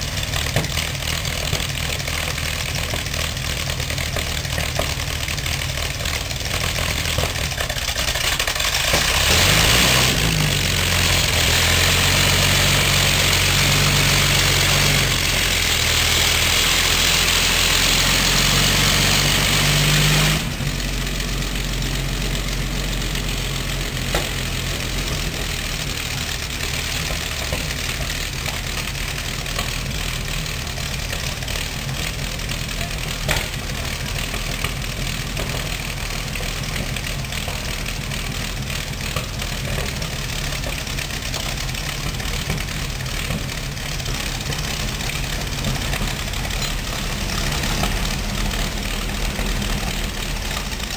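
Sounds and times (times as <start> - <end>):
tank engine idling and revving: 0.0 - 50.9.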